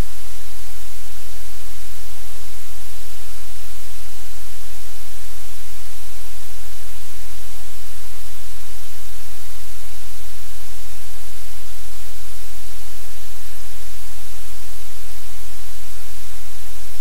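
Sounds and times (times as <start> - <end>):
low electrical hum: 0.0 - 17.0
static hiss: 0.0 - 17.0.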